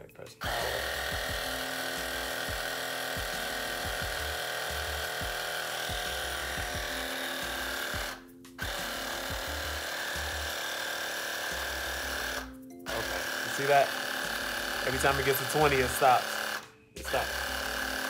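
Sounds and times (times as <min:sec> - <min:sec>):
portable air compressor running: 0:00.4 - 0:18.0.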